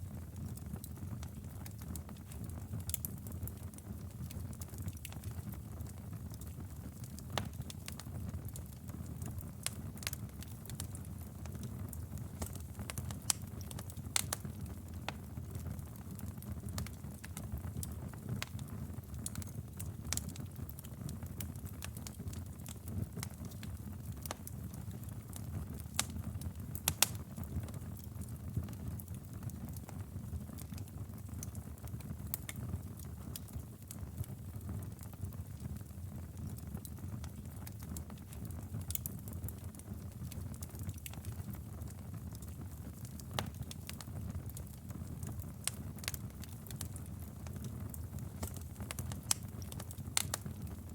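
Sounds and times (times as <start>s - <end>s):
fire crackling and popping: 0.0s - 50.9s
fire rumbling: 0.1s - 50.9s.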